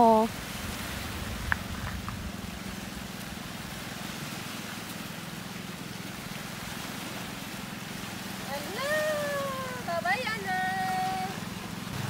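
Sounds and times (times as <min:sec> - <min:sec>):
low hum: 0:00.0 - 0:10.0
waves on pebble shore: 0:00.0 - 0:12.0.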